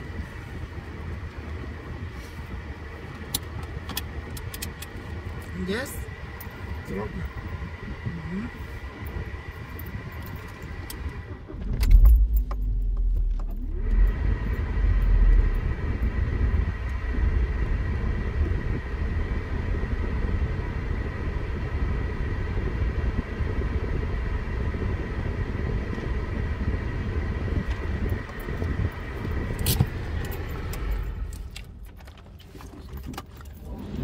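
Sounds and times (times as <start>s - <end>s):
car cabin low rumble: 0.0s - 34.0s
heavier low rumble: 0.0s - 34.0s.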